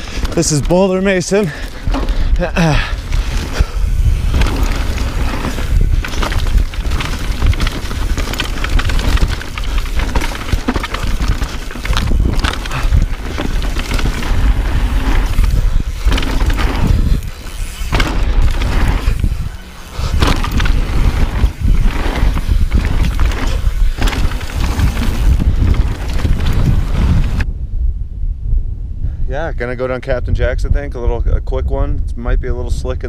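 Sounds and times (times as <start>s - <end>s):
bike chain and frame rattling: 0.0s - 27.4s
bike tyre noise: 0.0s - 27.5s
wind buffeting microphone: 0.0s - 33.0s.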